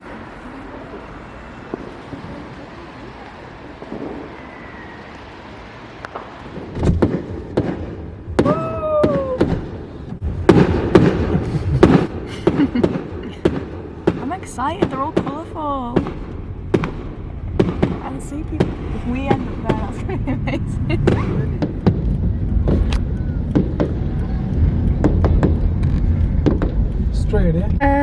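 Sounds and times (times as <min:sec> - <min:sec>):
outdoor crowd hubbub: 0:00.0 - 0:28.0
fireworks banging and crackling: 0:00.1 - 0:27.4.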